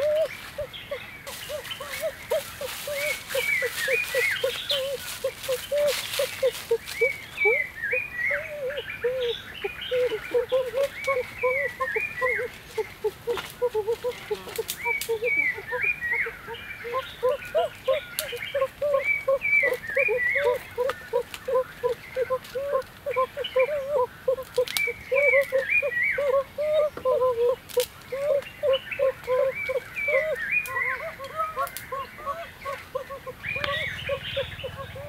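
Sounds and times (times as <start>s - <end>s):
higher animal calls: 0.0s - 35.0s.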